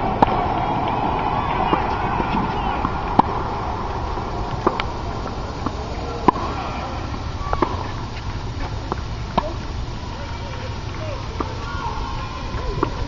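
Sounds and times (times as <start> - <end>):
tennis balls struck and bouncing: 0.0 - 9.7, 10.4 - 13.0
low background noise: 0.0 - 13.0.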